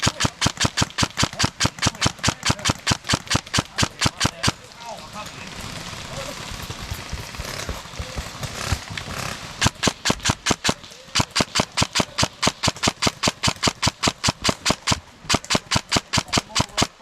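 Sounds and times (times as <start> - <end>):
airsoft gun rapid fire: 0.0 - 17.0.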